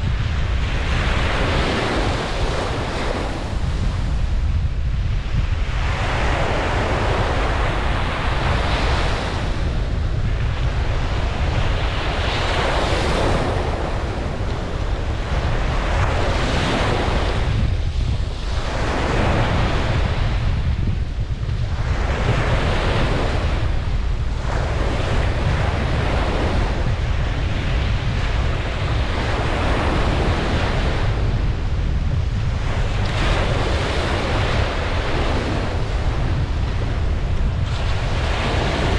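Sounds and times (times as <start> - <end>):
ocean waves breaking on beach: 0.0 - 38.9
wind rumble on microphone: 0.0 - 38.9.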